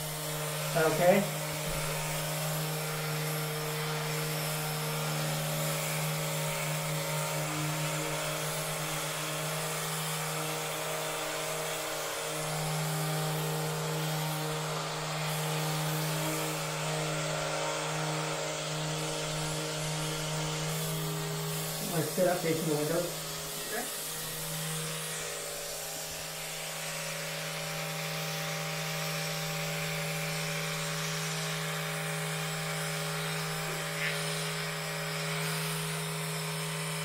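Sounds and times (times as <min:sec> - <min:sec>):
electric massager buzzing: 0:00.0 - 0:37.0.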